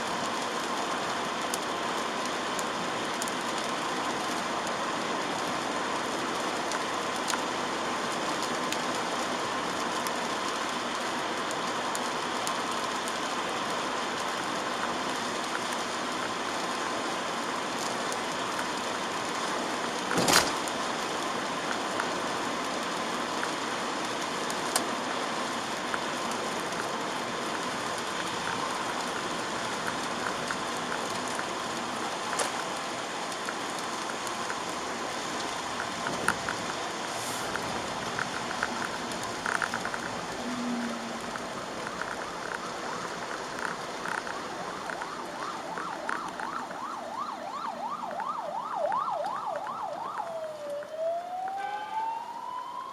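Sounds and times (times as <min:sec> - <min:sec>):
rain hiss: 0:00.0 - 0:51.5
wet tyres on road: 0:00.0 - 0:52.9.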